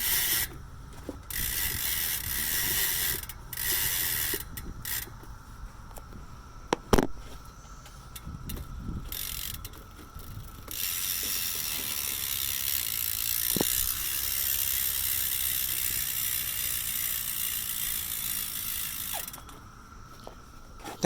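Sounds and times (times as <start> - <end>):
bicycle hub freewheel buzz: 0.0 - 6.8, 7.4 - 20.2.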